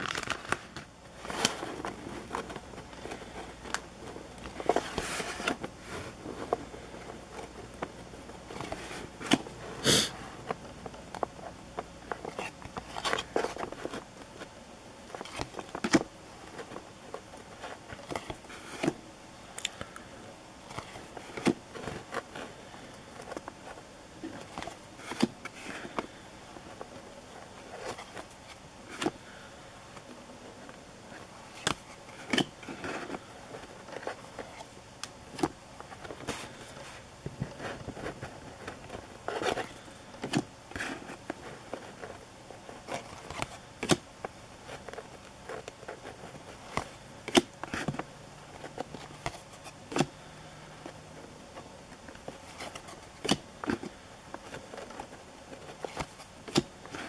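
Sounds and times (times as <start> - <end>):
cardboard cards clicking and rustling: 0.0 - 19.0, 19.6 - 57.0.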